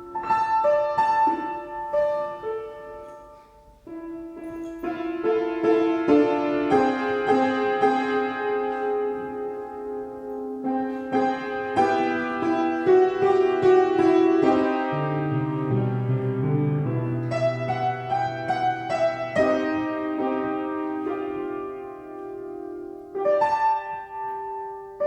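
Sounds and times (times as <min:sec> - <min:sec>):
solo piano playing: 0:00.0 - 0:25.0.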